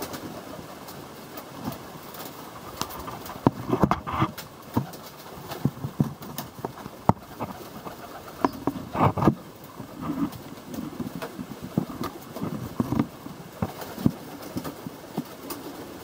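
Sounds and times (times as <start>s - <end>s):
pigeons flapping wings: 0.0s - 16.0s.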